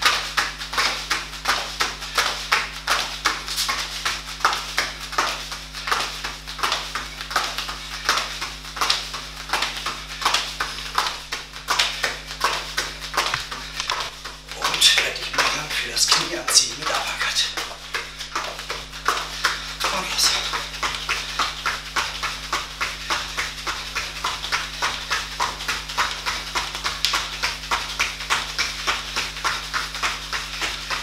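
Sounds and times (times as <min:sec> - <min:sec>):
bare feet slapping on a mat: 0:00.0 - 0:31.0.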